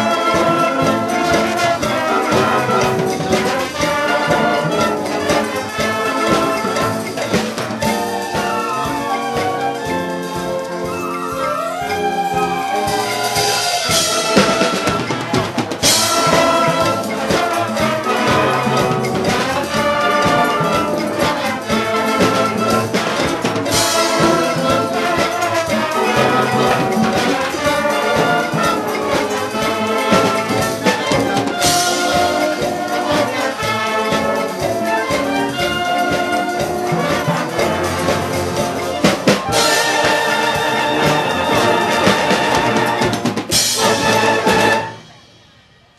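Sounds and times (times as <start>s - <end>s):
concert band playing: 0.0s - 45.9s.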